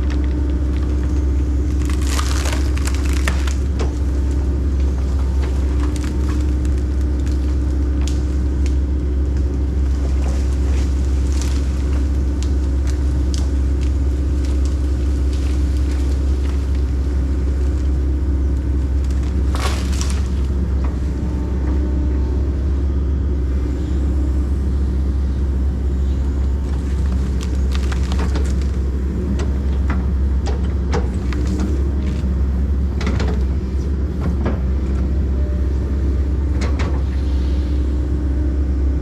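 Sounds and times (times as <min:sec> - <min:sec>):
excavator diesel engine droning: 0:00.0 - 0:39.0.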